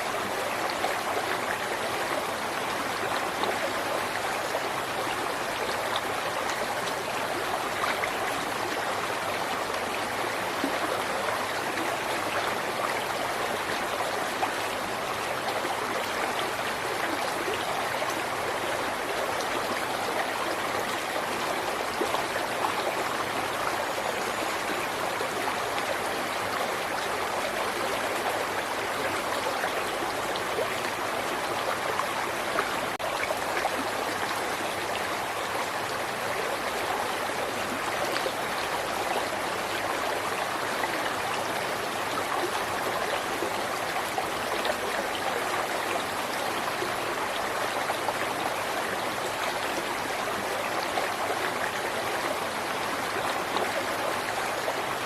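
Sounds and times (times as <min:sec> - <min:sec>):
river water over rocks: 0:00.0 - 0:55.0.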